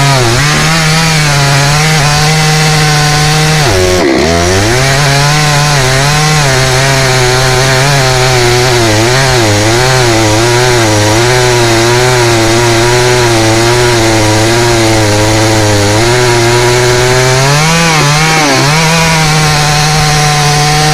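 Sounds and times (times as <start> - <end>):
chainsaw cutting wood: 0.0 - 20.9.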